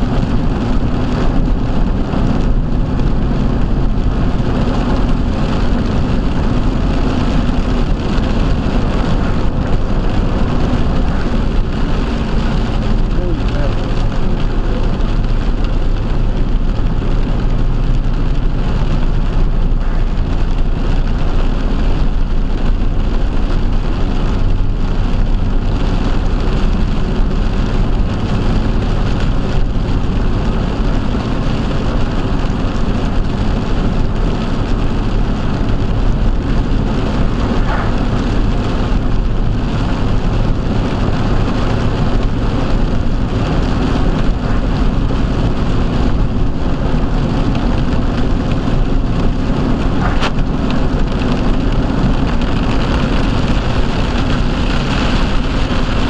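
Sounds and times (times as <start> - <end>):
heavy rain on a vehicle: 0.0 - 56.0
road and engine rumble: 0.0 - 56.0.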